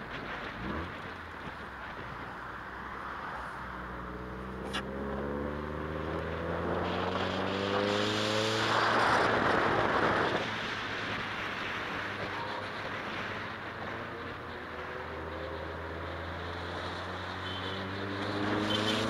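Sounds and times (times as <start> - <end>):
car engine accelerating: 0.1 - 19.0.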